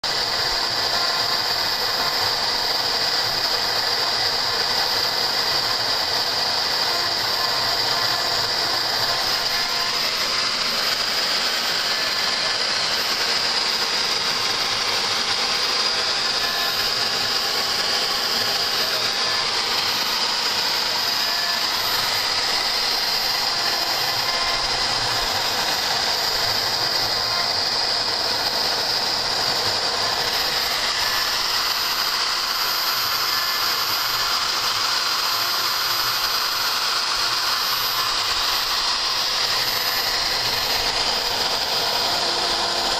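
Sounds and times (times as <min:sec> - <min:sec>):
continuous high whine: 0:00.0 - 0:42.9
machine whirring: 0:00.0 - 0:42.9.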